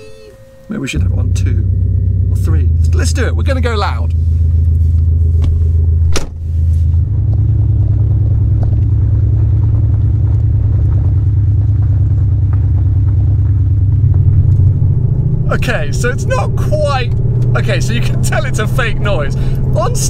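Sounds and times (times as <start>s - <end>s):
synthesized engine drone: 0.0s - 20.0s.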